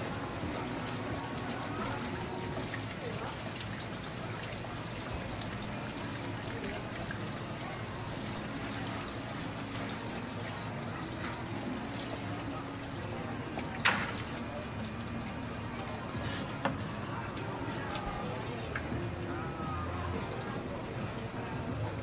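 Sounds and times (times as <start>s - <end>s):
tap water running and splashing: 0.0s - 22.0s.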